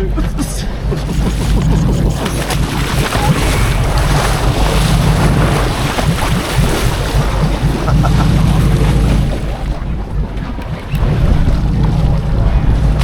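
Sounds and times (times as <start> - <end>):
sea washing around boat: 0.0 - 13.0
wind noise on microphone: 0.0 - 13.0.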